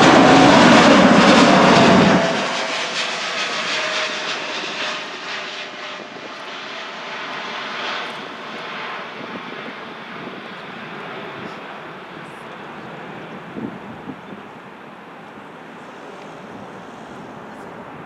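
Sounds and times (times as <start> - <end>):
jet engines rumbling overhead: 0.0 - 18.0.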